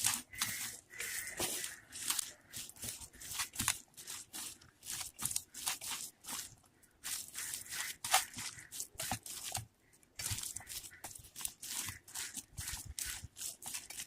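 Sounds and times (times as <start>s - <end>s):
hands squeezing wet mixture: 0.0s - 14.0s.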